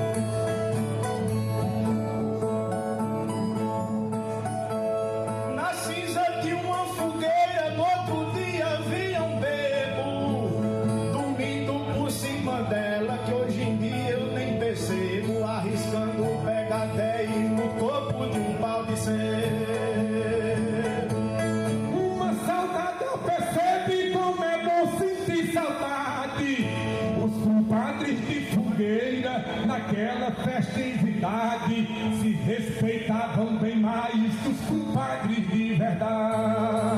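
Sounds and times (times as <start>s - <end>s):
string accompaniment: 0.0s - 36.9s.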